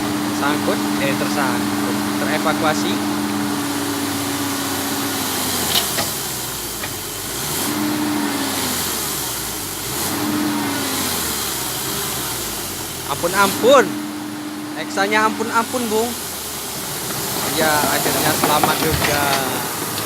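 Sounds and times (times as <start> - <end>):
diesel engine roaring under load: 0.0 - 20.0.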